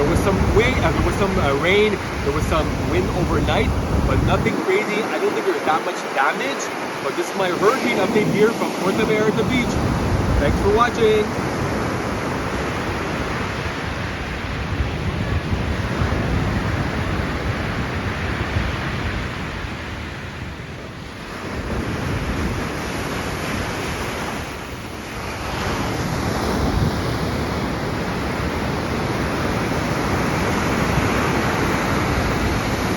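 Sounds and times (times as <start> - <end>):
wind on microphone: 0.0 - 5.4, 6.4 - 32.9
ocean surf breaking: 0.0 - 32.9.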